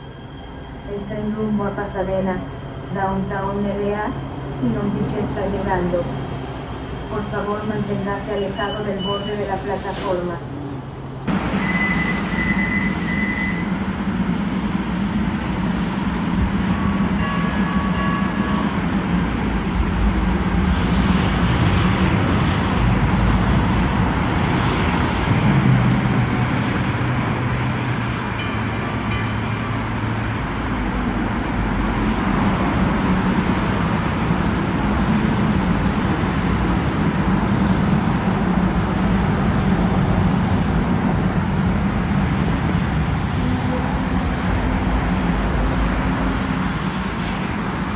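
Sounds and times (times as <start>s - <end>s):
light rail train pulling in: 0.0s - 47.9s
steady traffic noise: 3.8s - 47.9s.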